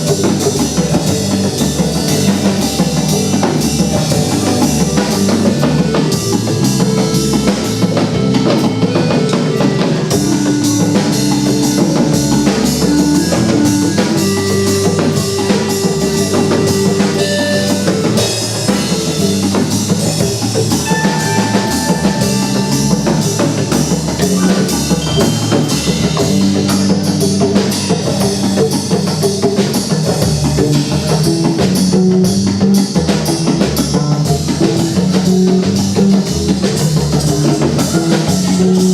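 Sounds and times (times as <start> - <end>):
bass: 0.0 - 38.9
drum kit beat: 0.0 - 38.9
guitar: 0.0 - 38.9.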